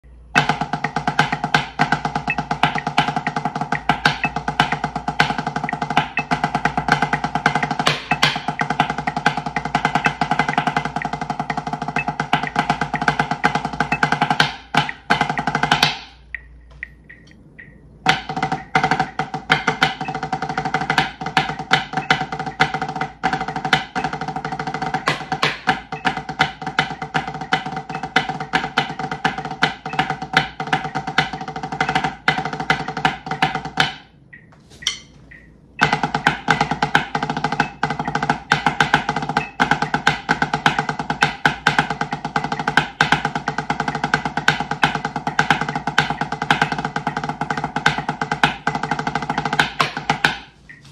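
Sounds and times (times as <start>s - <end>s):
drumsticks on practice pad: 0.2s - 50.9s.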